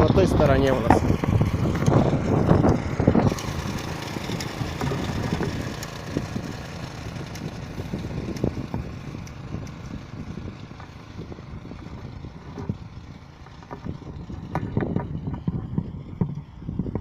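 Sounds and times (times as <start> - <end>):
tractor engine idling: 0.0 - 16.7.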